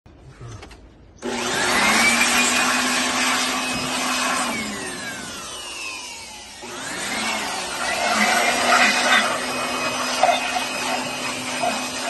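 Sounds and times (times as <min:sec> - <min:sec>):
small motor whining: 0:01.2 - 0:12.0.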